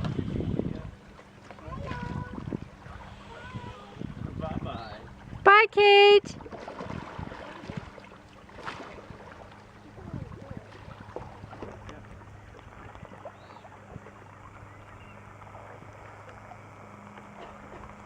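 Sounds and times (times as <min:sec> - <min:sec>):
paddle in water: 0:00.0 - 0:18.0
steady low hum: 0:00.0 - 0:18.0.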